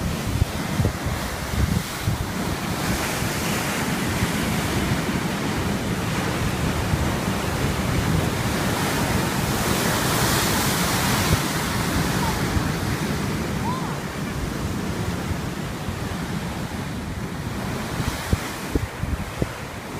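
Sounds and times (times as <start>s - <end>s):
sea waves washing on shore: 0.0s - 19.9s
wind rumbling on microphone: 0.0s - 19.9s.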